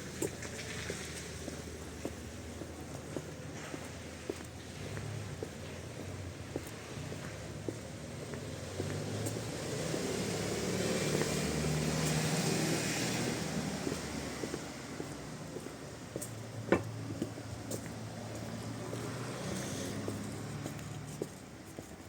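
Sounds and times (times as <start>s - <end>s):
car passing: 0.0s - 22.0s.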